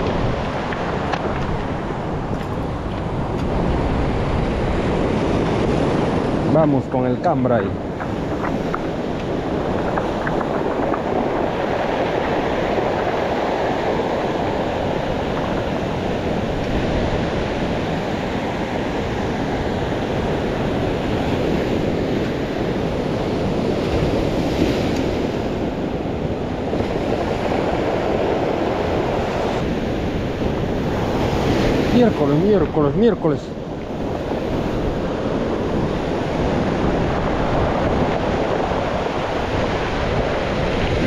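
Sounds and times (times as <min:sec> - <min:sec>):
wind buffeting microphone: 0:00.0 - 0:41.0
surf washing over cobbles: 0:05.2 - 0:22.0, 0:22.7 - 0:41.0.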